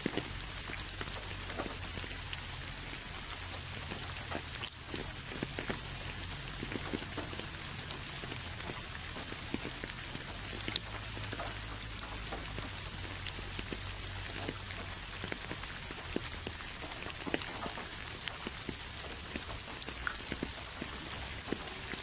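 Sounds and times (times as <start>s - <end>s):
raindrops pattering: 0.0s - 22.0s.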